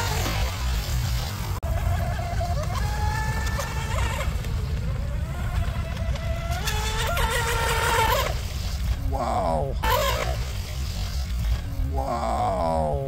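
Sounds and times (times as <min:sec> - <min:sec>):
electric boat motor whining: 0:00.0 - 0:11.9.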